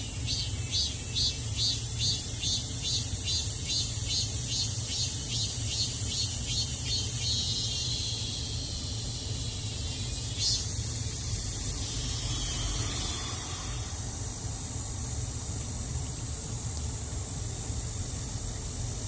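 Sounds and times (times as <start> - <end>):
loud cicada buzz: 0.0 - 15.4
cicadas buzzing chorus: 0.0 - 19.0.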